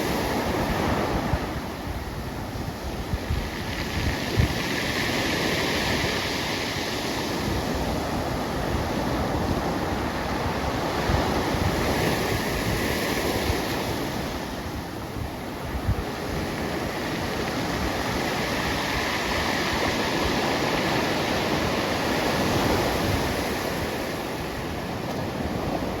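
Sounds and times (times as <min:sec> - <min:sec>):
ocean surf washing ashore: 0:00.0 - 0:26.0
wind buffeting microphone: 0:00.0 - 0:26.0.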